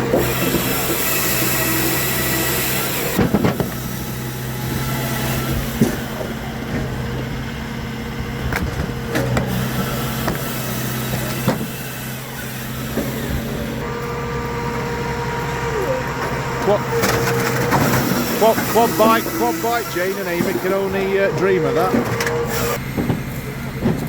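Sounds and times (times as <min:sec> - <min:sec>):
machinery engine running: 0:00.0 - 0:24.0.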